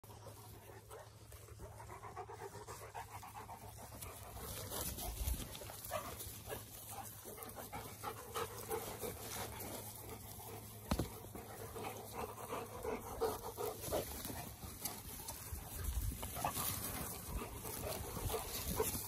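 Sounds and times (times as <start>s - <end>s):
dogs panting: 0.0s - 19.0s.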